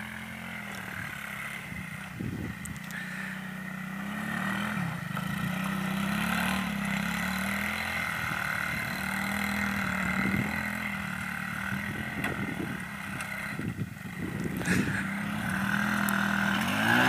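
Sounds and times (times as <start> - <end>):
quad bike engine high revs: 0.0 - 17.0.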